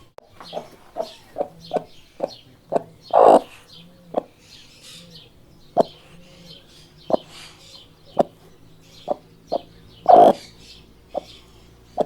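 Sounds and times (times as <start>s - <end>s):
chickens clucking: 0.0s - 12.0s
drawn-out chicken call: 0.0s - 12.0s
faint high chirping: 0.0s - 12.0s.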